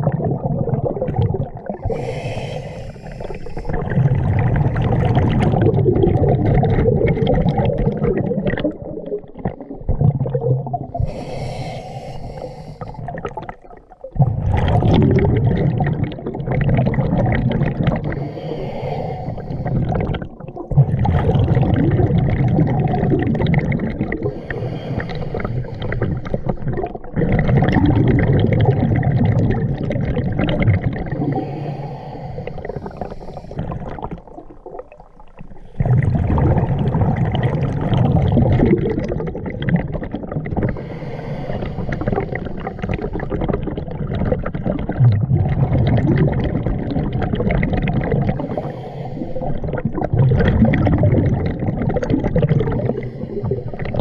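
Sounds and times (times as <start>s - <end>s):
underwater breath bubbles gurgling: 0.0s - 54.0s.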